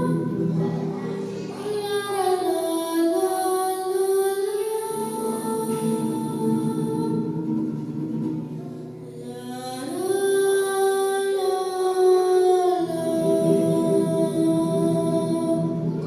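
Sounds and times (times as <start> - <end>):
slow music of long held chords: 0.0 - 16.0.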